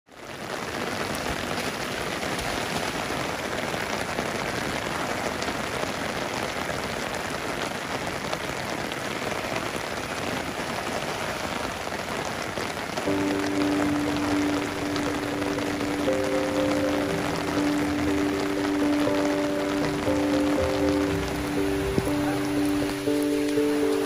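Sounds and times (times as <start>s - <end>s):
heavy rain on mud and puddles: 0.1s - 24.0s.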